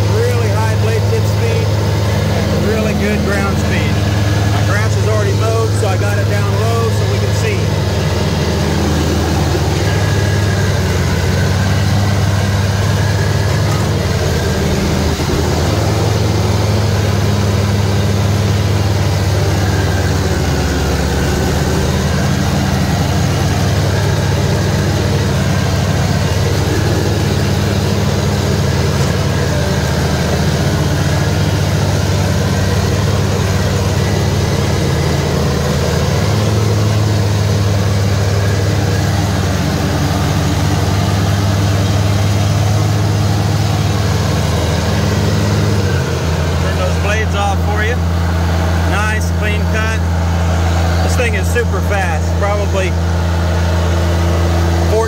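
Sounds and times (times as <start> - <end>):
mower diesel engine running: 0.0 - 55.0.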